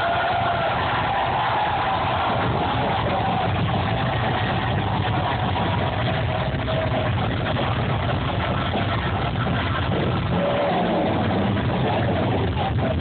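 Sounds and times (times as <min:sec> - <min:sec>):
distorted live heavy metal band: 0:00.0 - 0:13.0.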